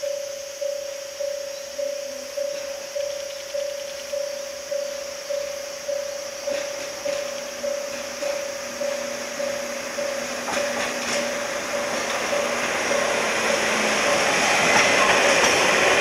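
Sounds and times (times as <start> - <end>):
approaching diesel train: 0.0 - 16.0.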